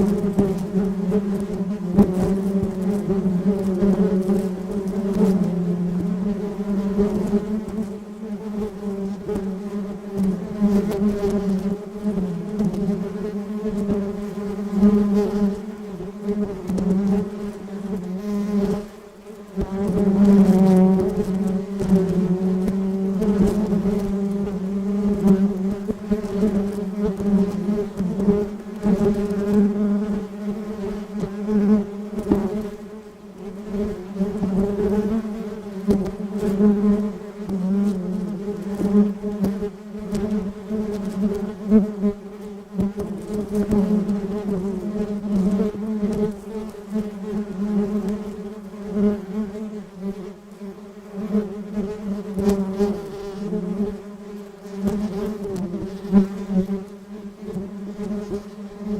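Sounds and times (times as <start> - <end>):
bee buzzing: 0.0 - 58.9.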